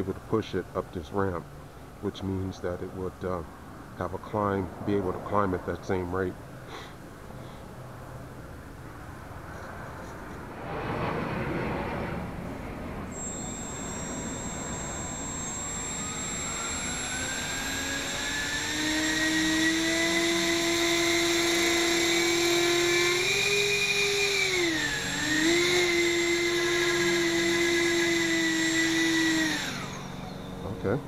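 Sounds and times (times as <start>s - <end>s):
electric fans whining: 0.0s - 31.0s.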